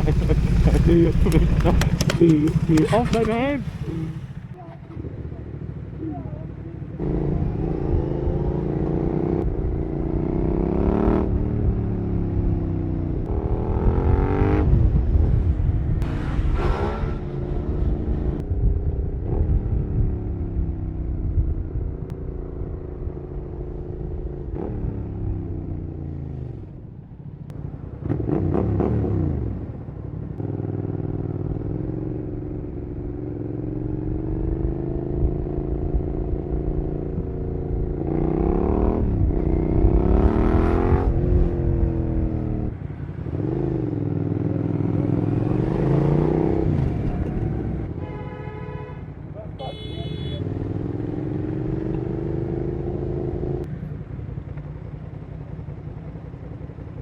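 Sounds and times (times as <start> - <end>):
motorcycle engine accelerating: 0.0 - 48.2, 49.4 - 57.0.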